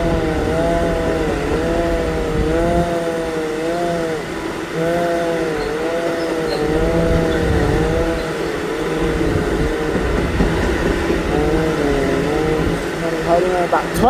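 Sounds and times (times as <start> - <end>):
freight train rumbling past: 0.0 - 14.0
wavering locomotive whine: 0.0 - 14.0.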